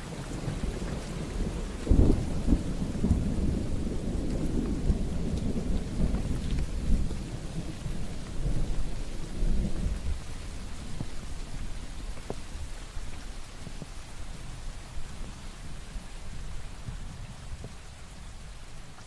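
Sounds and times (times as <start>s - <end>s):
steady rain: 0.0s - 19.0s
thunder clap and rumble: 0.2s - 18.5s.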